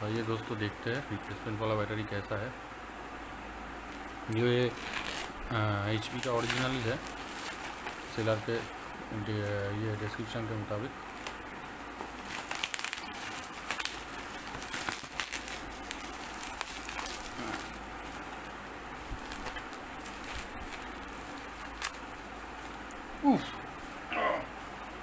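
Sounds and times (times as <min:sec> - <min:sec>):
bubble-wrap mailer crinkling: 0:03.9 - 0:24.7.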